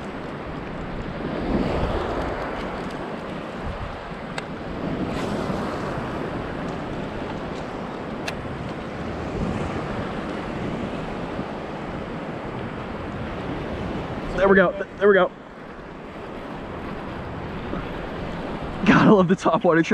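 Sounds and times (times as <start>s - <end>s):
wind on microphone: 0.0s - 19.2s
surf washing: 0.0s - 19.9s.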